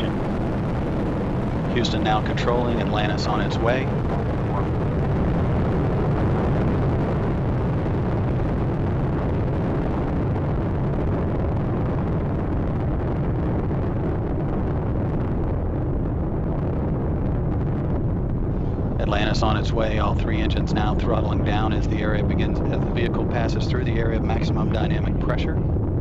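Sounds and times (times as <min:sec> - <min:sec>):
rocket engines rumbling: 0:00.0 - 0:26.0.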